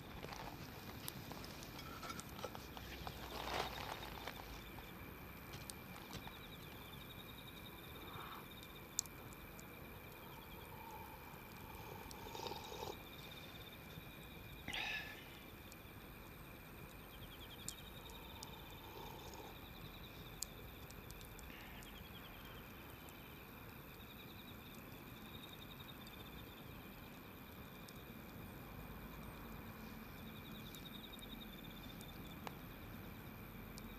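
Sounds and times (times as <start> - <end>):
insects chirring: 0.0 - 33.9
wood fire crackling: 0.0 - 33.9.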